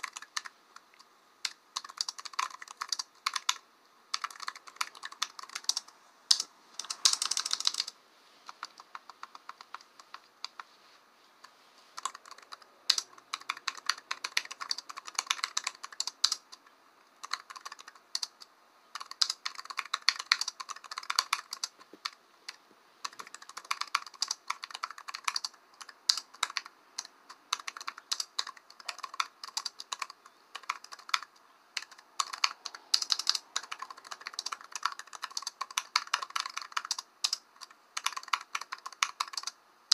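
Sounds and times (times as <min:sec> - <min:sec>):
keyboard typing: 0:00.0 - 0:10.7, 0:11.4 - 0:39.6.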